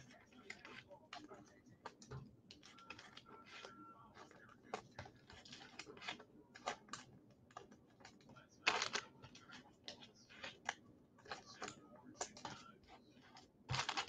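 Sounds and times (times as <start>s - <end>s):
cards clicking and rustling: 0.0s - 14.0s.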